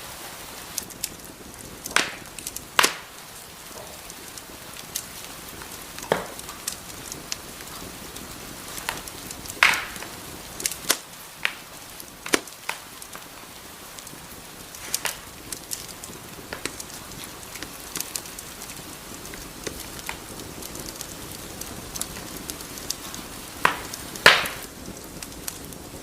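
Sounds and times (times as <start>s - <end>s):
sharp fire pops: 0.0s - 26.0s
wood fire crackling: 0.0s - 26.0s.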